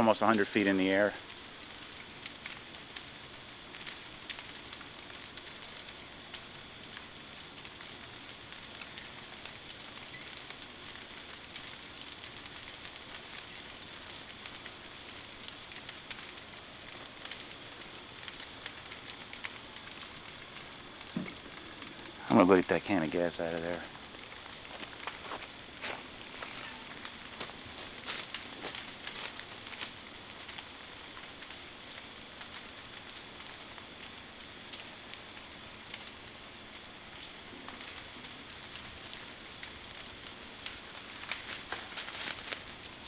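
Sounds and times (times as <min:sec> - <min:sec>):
bonfire rushing: 0:00.0 - 0:43.0
burning wood crackling and popping: 0:00.0 - 0:43.0.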